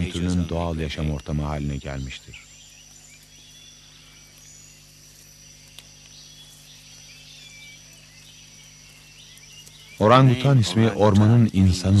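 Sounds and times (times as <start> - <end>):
bird or frog chirps: 0.0 - 12.0
insect drone: 0.0 - 12.0.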